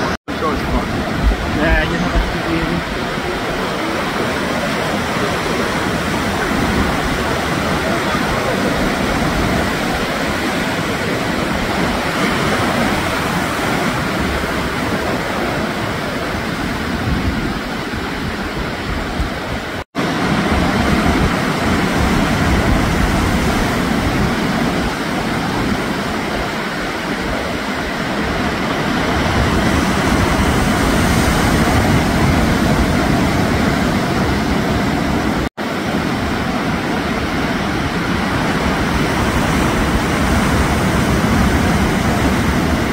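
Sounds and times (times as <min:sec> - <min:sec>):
ocean surf roaring: 0:00.0 - 0:42.9.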